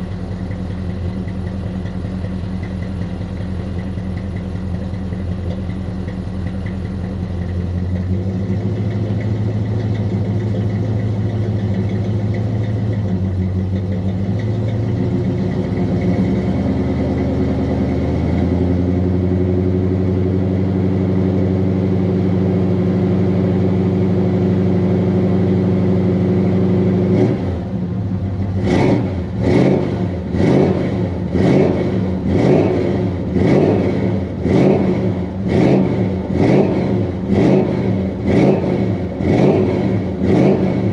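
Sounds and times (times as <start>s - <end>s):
car engine idling: 0.0s - 40.9s
engine revving: 7.3s - 40.9s.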